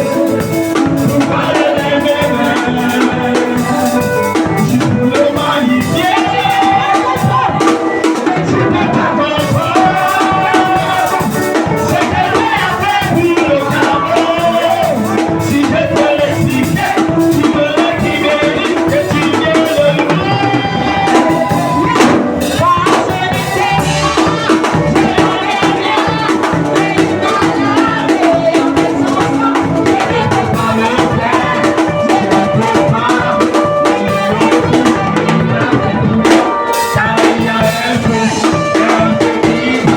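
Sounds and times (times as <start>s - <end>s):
drums: 0.0s - 39.9s
voices singing a hymn: 0.0s - 39.9s.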